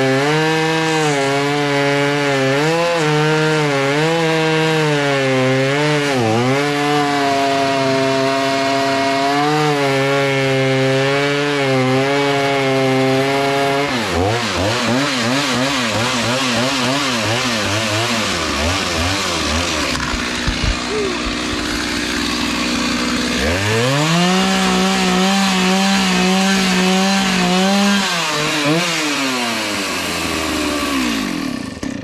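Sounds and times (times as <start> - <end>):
chainsaw cutting log: 0.0 - 32.0.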